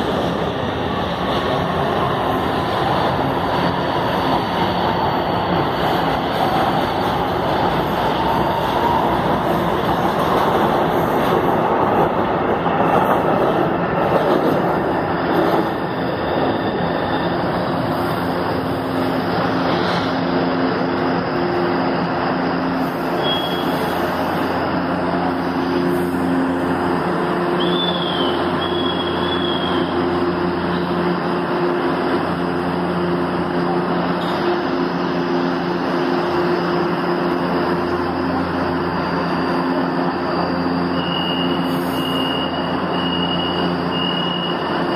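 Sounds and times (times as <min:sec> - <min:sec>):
standing train humming: 0:00.0 - 0:44.9
train rushing past: 0:00.0 - 0:44.9.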